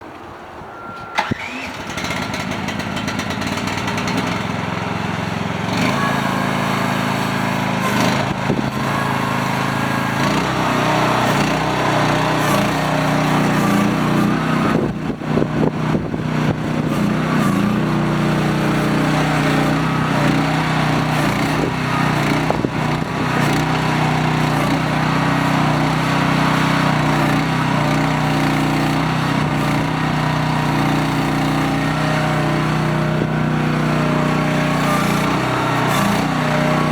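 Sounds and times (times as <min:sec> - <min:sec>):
small diesel engine running: 0:01.2 - 0:36.9.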